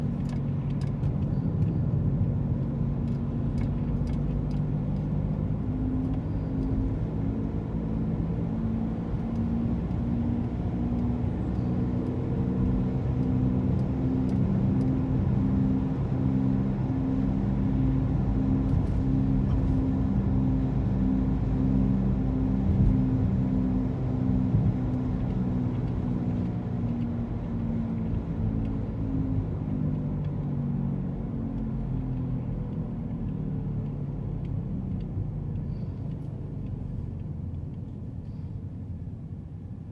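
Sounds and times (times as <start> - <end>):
car engine rumbling: 0.0 - 39.6.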